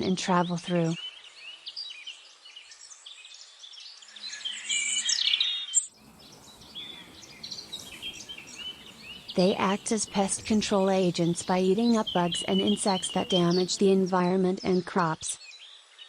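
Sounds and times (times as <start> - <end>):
small birds chirping: 0.3 - 16.0
faint bird chorus: 0.9 - 16.0.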